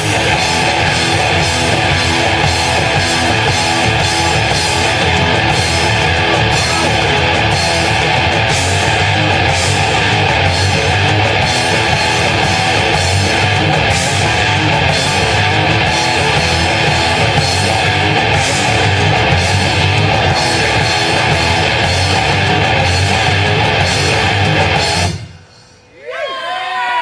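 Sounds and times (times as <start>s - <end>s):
live rock band playing: 0.0s - 25.4s.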